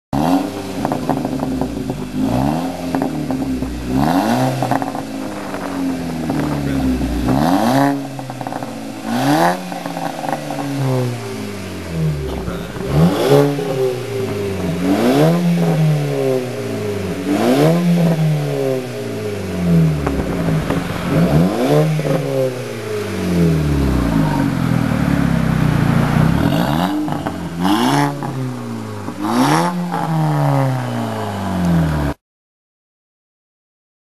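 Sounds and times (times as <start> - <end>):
car engine revving: 0.2 - 32.2
exhaust pops: 0.5 - 11.3, 12.0 - 30.2.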